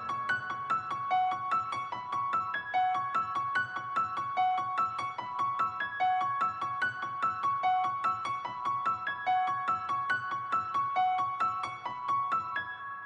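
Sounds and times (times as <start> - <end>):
piano-like keyboard music: 0.0 - 13.0.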